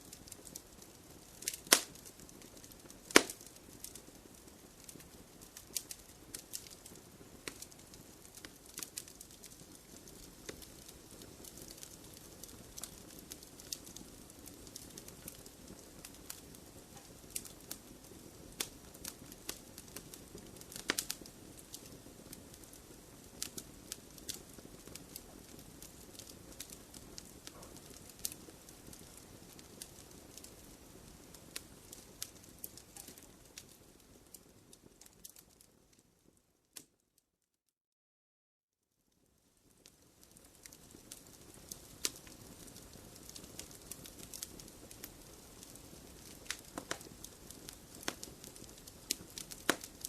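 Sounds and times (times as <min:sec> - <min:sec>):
wood fire crackling: 0:00.0 - 0:37.0, 0:39.2 - 0:50.0.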